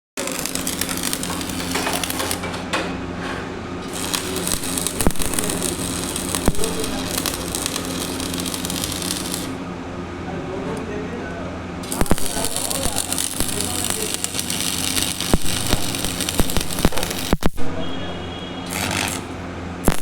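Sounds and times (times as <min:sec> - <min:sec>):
welding arc crackling hiss: 0:00.2 - 0:02.5, 0:03.8 - 0:09.6, 0:11.8 - 0:20.0.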